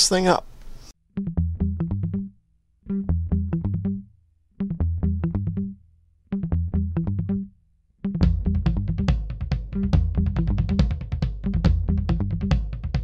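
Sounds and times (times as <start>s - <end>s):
low bass line: 1.2s - 5.8s, 6.4s - 7.5s, 8.1s - 12.8s.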